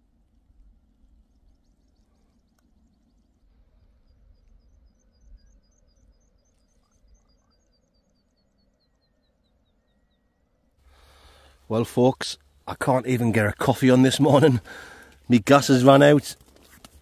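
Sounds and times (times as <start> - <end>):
faint low rumble: 0.0 - 15.3
small bird singing: 0.3 - 16.2.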